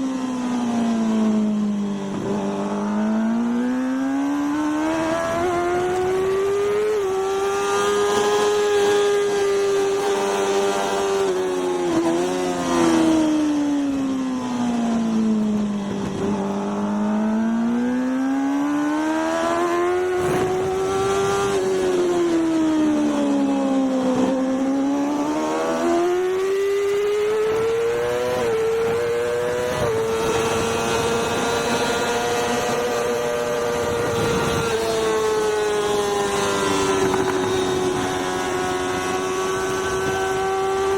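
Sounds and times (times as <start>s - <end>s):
racing motorcycle engine: 0.0s - 40.9s
wind and road noise: 0.0s - 40.9s.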